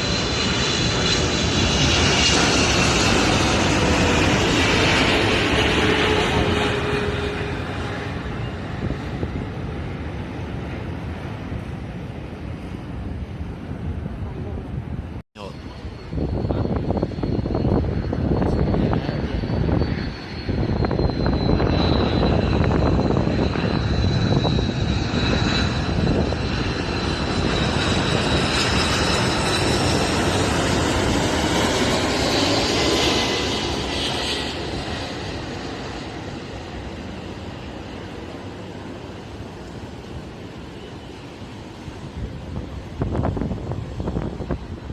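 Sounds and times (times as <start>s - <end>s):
jet airliner passing: 0.0s - 44.9s.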